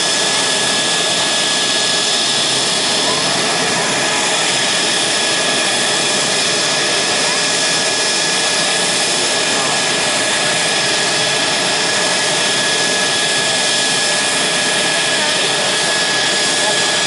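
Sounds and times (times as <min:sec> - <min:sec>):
jet engine roar with whine: 0:00.0 - 0:17.0.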